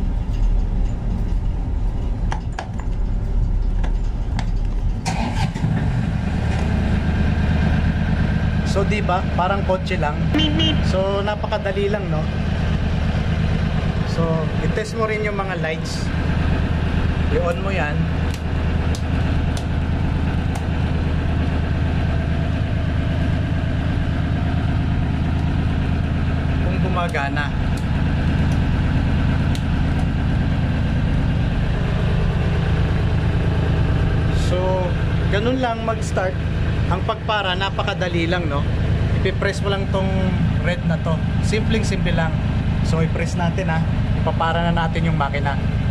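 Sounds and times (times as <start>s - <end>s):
diesel engine cranking and running: 0.0s - 45.9s.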